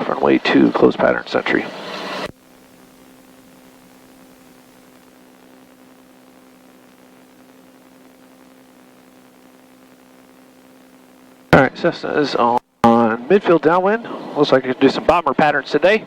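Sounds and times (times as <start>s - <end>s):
electrical hum with hiss: 0.0s - 16.0s.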